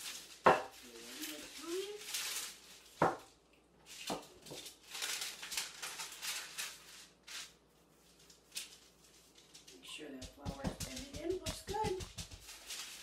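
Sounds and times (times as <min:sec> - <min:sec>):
dough handling: 0:00.0 - 0:13.0
parchment paper rustling: 0:00.0 - 0:13.0.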